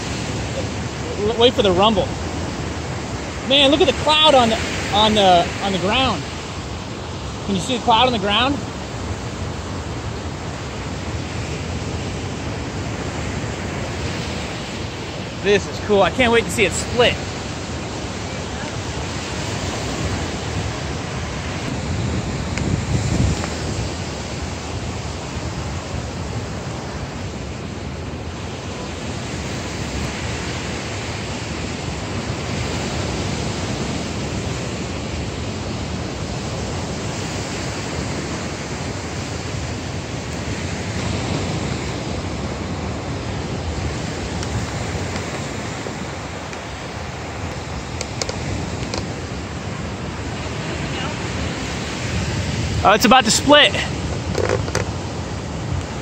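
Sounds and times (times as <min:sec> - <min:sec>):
ocean surf: 0:00.0 - 0:56.0
wind on microphone: 0:00.0 - 0:56.0.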